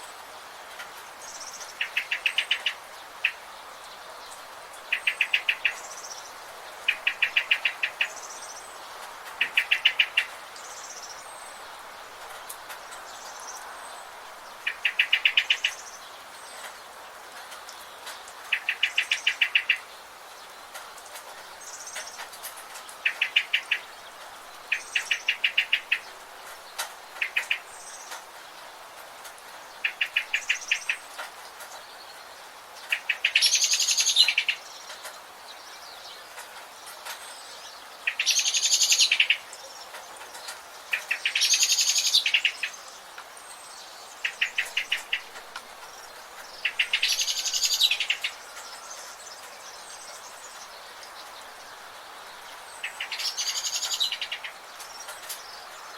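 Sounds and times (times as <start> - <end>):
background hiss: 0.0 - 55.9.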